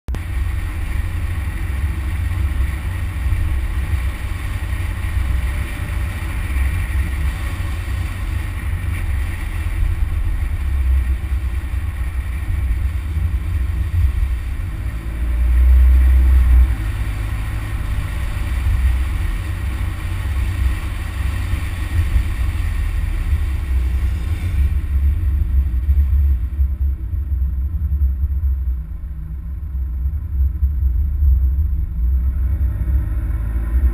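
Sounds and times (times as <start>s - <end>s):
vehicle low rumble: 0.1s - 33.9s.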